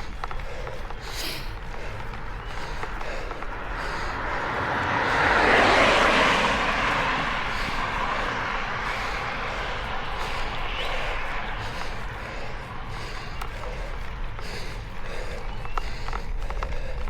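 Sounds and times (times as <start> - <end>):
motor vehicle passing: 0.0 - 17.0.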